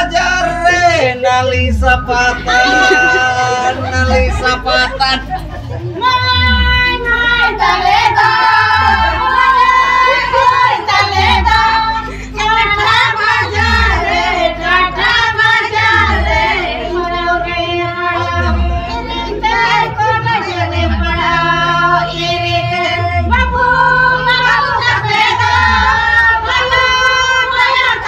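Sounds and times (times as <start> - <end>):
women singing in chorus: 2.1 - 28.0.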